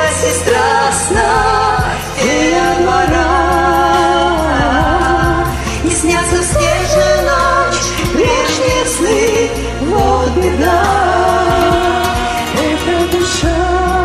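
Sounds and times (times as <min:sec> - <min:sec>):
bass and percussion: 0:00.0 - 0:14.0
sliding lead melody: 0:00.0 - 0:14.0.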